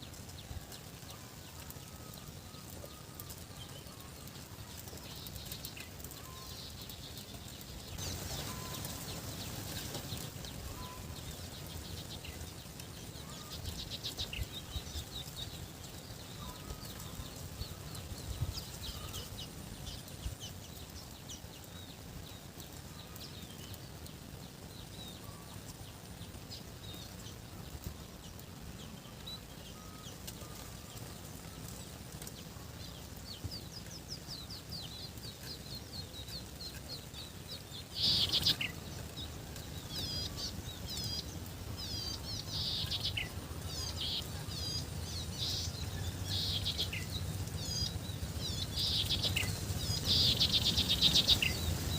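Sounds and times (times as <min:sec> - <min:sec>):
background hiss: 0:00.0 - 0:51.9
small birds chirping: 0:00.0 - 0:51.9.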